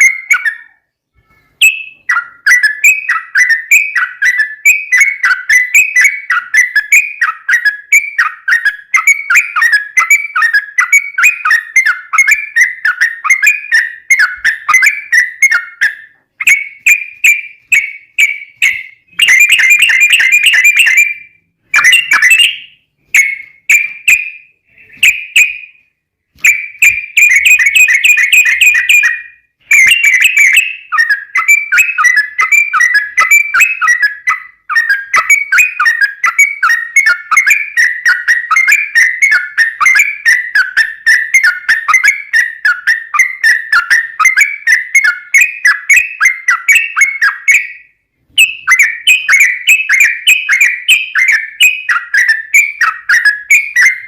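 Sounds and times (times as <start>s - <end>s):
bird rapid rattling song: 0.0s - 0.8s, 1.5s - 54.0s
bird chattering song: 0.0s - 54.0s.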